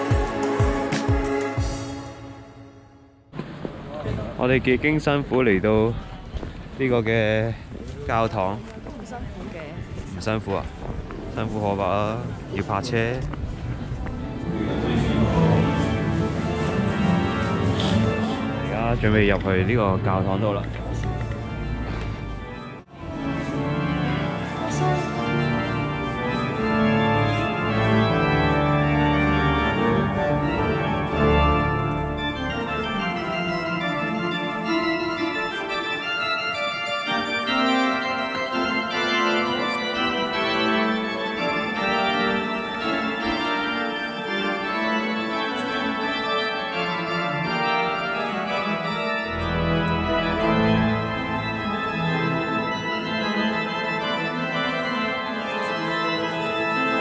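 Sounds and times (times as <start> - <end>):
organ playing chords: 0.0 - 3.3, 11.4 - 57.0.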